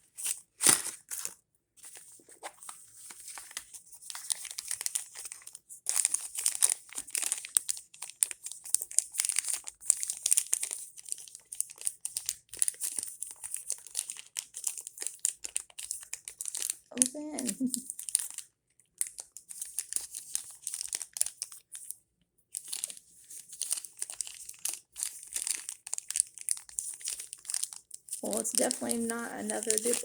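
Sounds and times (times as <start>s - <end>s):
plastic wrappers crinkling and tearing: 0.1s - 21.9s, 22.6s - 30.0s.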